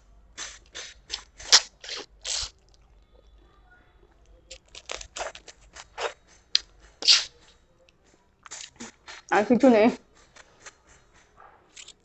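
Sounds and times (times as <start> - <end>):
crunchy chewing of food: 0.4 - 12.0.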